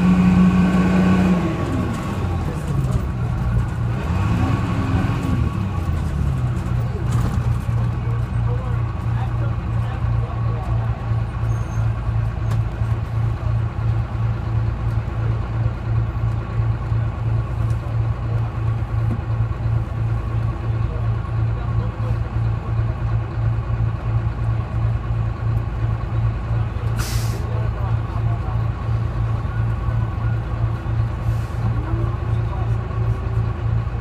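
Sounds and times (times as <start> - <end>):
bus diesel engine droning: 0.0 - 34.0.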